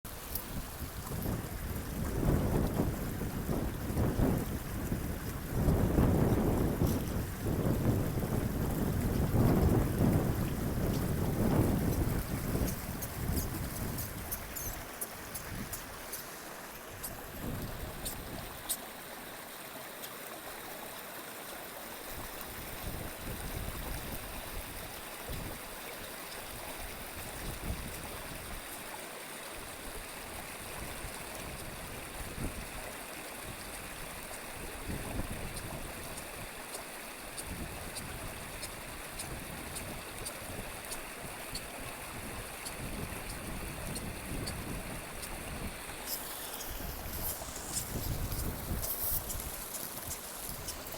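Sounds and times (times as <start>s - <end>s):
river water running: 0.1s - 50.9s.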